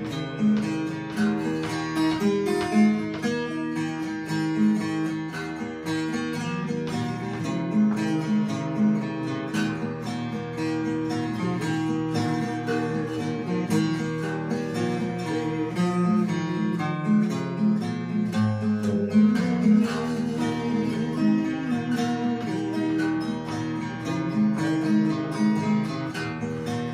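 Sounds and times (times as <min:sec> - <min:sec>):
acoustic guitar playing: 0:00.0 - 0:26.9.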